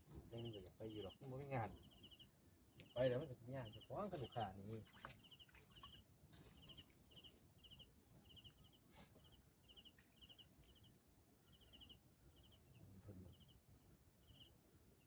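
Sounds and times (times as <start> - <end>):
insects chirping: 0.1 - 15.0.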